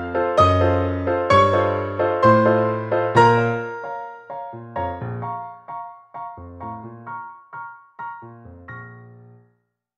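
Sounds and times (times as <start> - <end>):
keyboard chords: 0.0 - 9.6.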